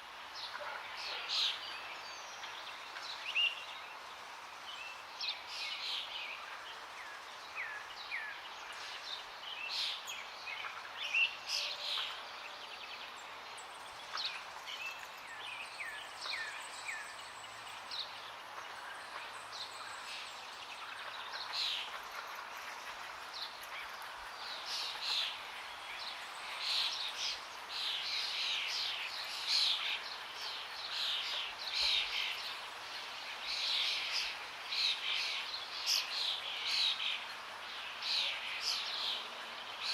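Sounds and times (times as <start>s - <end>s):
songbirds chirping and singing: 0.2s - 39.9s.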